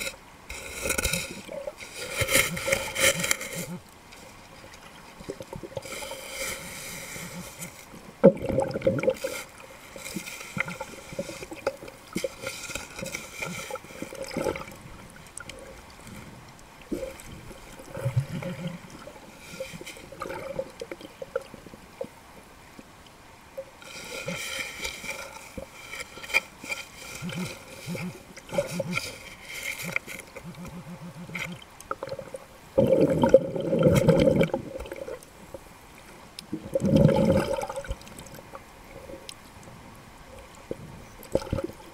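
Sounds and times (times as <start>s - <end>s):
muffled underwater water gurgling: 0.0s - 41.9s.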